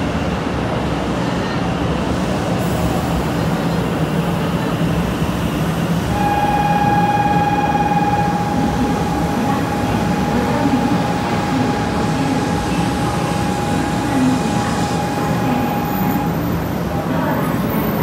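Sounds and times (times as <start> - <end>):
high train whine: 0.0 - 18.0
train rumbling past: 0.0 - 18.0.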